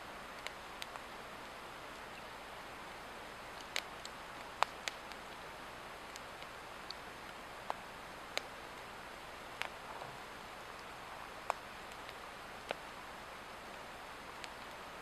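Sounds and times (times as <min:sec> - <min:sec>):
wood fire crackling and popping: 0:00.2 - 0:02.4, 0:03.2 - 0:15.0.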